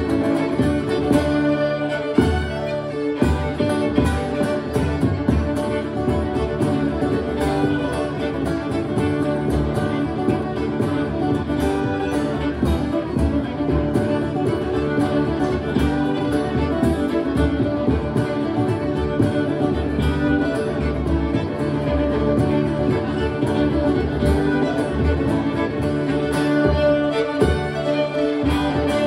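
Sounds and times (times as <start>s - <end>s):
fiddles playing a reel: 0.0s - 29.0s
strummed acoustic guitar: 0.0s - 29.0s.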